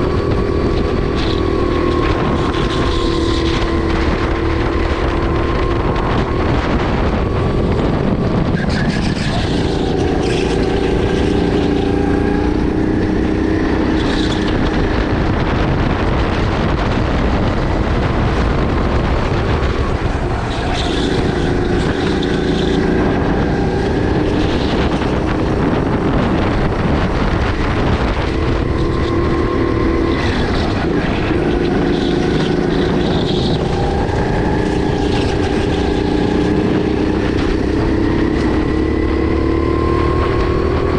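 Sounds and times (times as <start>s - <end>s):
kart engine running hard: 0.0s - 40.9s
wind rushing noise: 0.0s - 40.9s.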